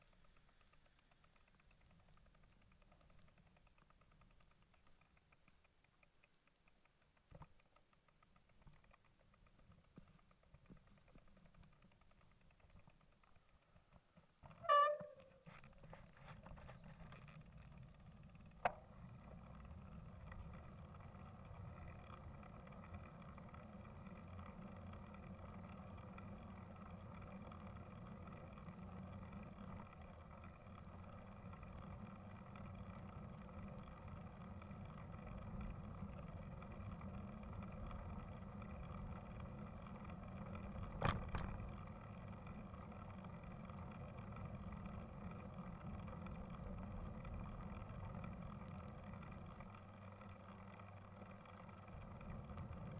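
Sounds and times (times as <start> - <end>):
road and wind rumble of bike: 8.4 - 52.9.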